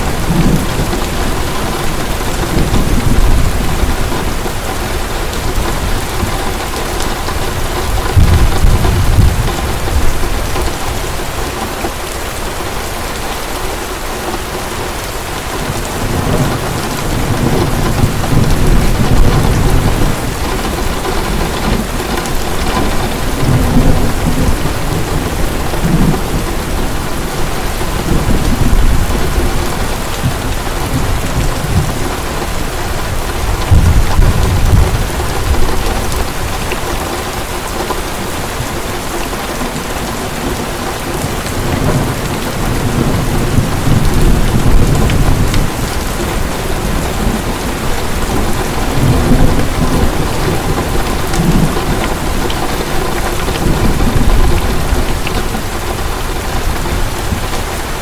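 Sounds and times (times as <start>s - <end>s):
heavy rain falling: 0.0s - 58.0s
thunder rumbling: 0.0s - 58.0s.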